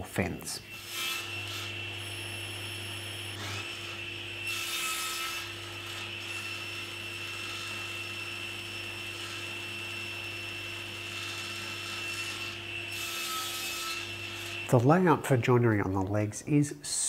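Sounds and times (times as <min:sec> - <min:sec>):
saw cutting wood: 0:00.7 - 0:15.0
table saw whining: 0:00.7 - 0:15.0.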